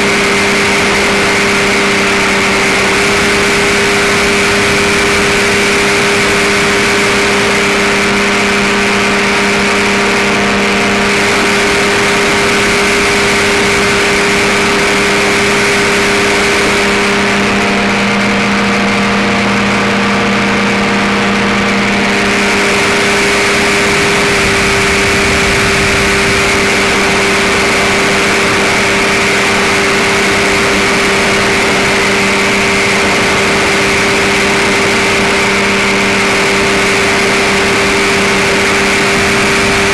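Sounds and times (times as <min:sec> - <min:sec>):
engine and propeller drone: 0:00.0 - 0:39.9.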